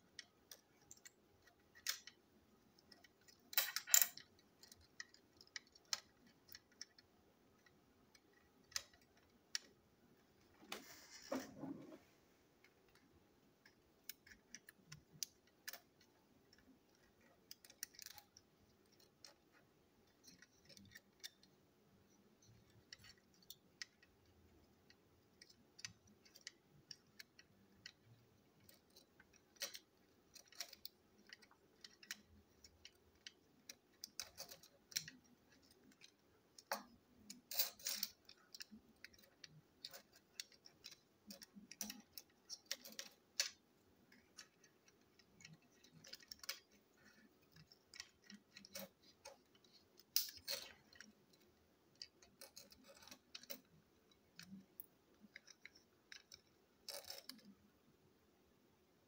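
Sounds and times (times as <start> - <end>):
clicks of small toy parts: 0.1 - 2.2, 2.8 - 9.8, 12.6 - 21.6, 22.4 - 57.6.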